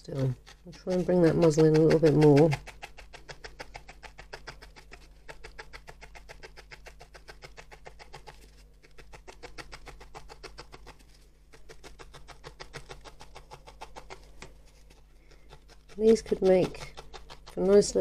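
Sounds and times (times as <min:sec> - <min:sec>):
felting needle poking wool: 0:00.0 - 0:18.0.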